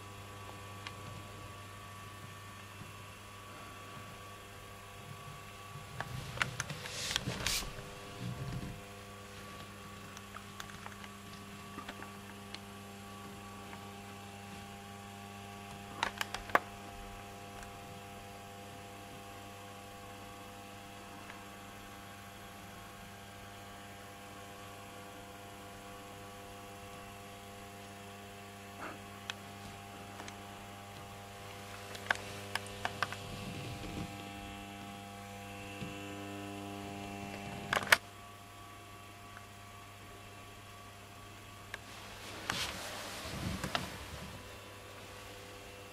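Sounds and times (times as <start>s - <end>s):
amplifier mains hum: 0.0s - 45.9s.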